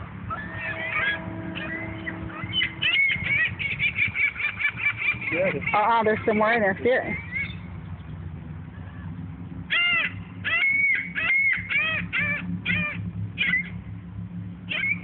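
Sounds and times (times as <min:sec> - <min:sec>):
seagulls squawking: 0:00.0 - 0:07.7, 0:08.8 - 0:13.9, 0:14.7 - 0:15.0.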